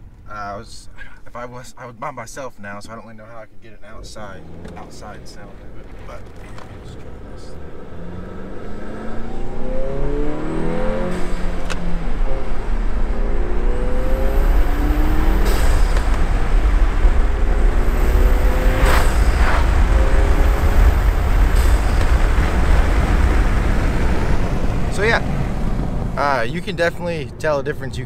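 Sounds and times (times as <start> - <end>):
road and wind rumble: 2.1 - 28.0
car engine accelerating: 3.7 - 28.0
rush of noise at gear shifts: 3.9 - 27.8.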